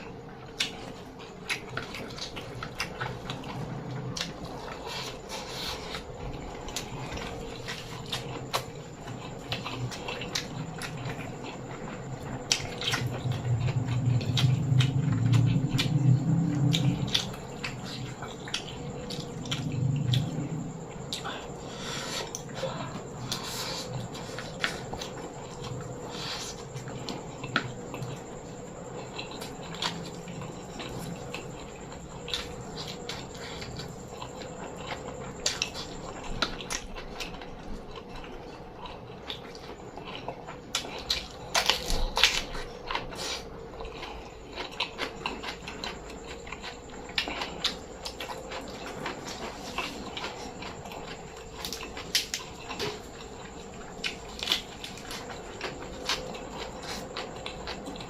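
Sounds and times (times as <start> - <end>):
chewing and crunching: 0.0 - 58.0
faint steady hum: 0.0 - 58.0.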